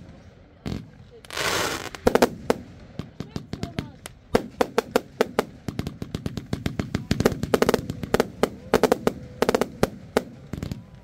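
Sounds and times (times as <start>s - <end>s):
fireworks launch and burst bangs: 0.0s - 11.0s.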